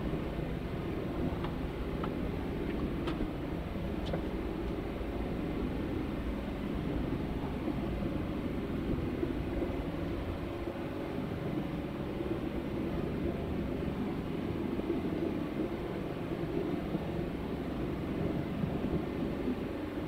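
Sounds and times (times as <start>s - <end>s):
faint hum: 0.0s - 20.0s
low rumbling noise: 0.0s - 20.0s.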